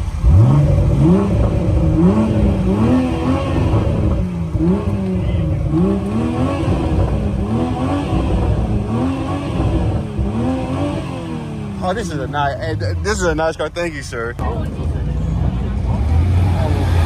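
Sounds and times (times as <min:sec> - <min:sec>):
car engine revving in blips: 0:00.0 - 0:17.0.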